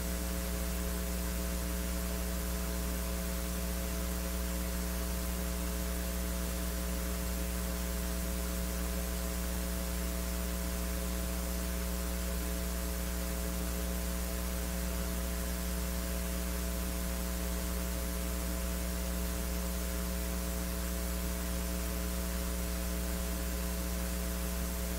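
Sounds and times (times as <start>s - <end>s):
electrical mains hum: 0.0s - 24.9s.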